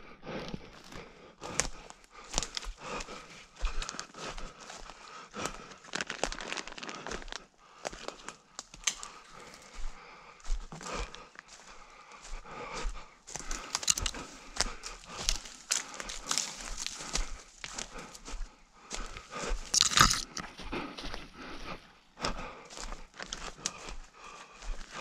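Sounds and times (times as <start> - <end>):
footsteps through undergrowth: 0.7 - 25.0.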